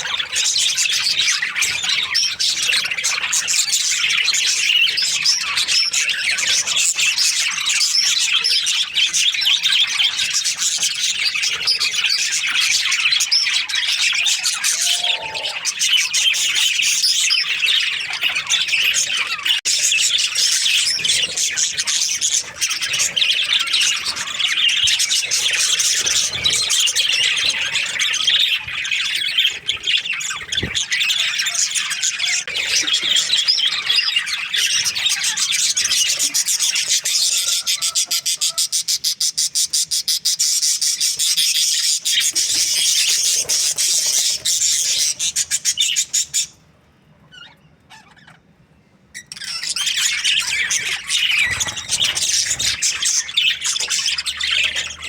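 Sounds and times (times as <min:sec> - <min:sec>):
budgerigars chattering: 0:00.0 - 0:46.6, 0:49.1 - 0:55.0.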